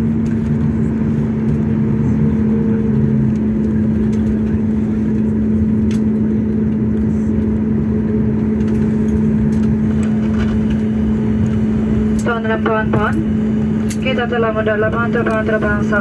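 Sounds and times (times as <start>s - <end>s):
constant hum: 0.0s - 16.0s
engine and airflow rumble: 0.0s - 16.0s.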